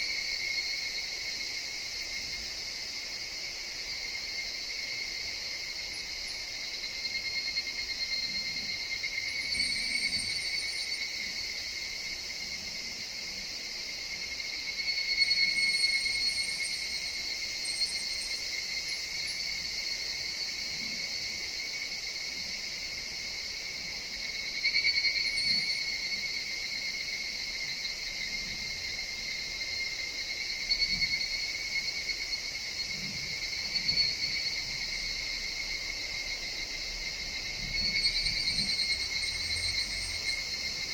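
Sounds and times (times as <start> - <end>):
cicadas chorus drone: 0.0 - 40.9.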